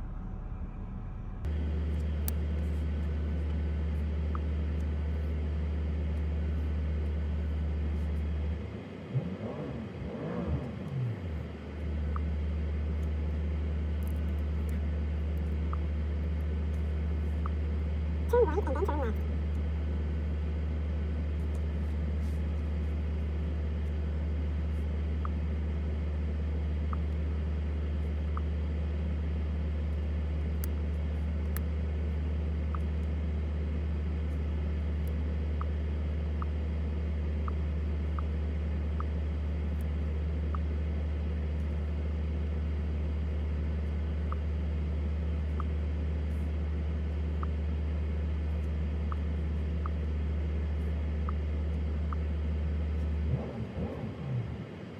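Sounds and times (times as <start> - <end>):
engine and road noise in cabin: 0.0 - 54.9.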